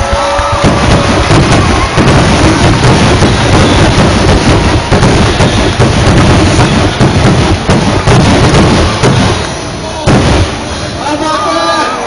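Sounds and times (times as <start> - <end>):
fireworks booming and crackling: 0.0 - 11.4.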